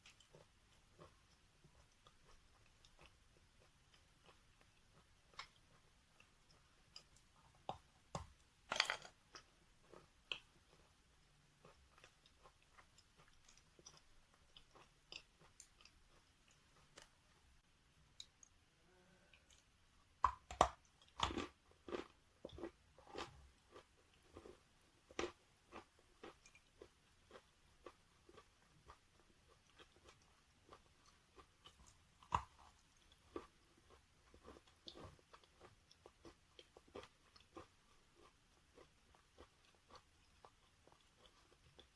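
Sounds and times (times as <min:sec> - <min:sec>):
person chewing chalk: 0:00.0 - 0:08.4, 0:09.3 - 0:17.2, 0:19.4 - 0:41.9.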